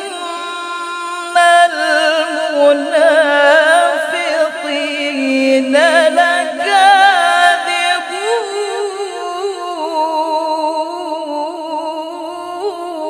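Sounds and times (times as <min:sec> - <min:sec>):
woman chanting melodically: 0:00.0 - 0:13.0.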